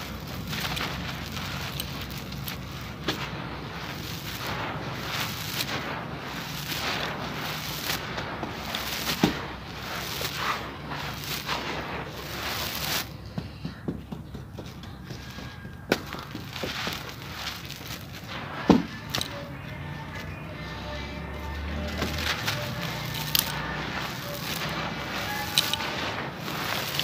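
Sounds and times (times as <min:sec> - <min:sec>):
crumbled lump cracking: 0:00.0 - 0:13.2, 0:15.8 - 0:20.4, 0:21.6 - 0:27.0
hands raking gritty sand-cement: 0:00.0 - 0:13.8, 0:14.4 - 0:27.0.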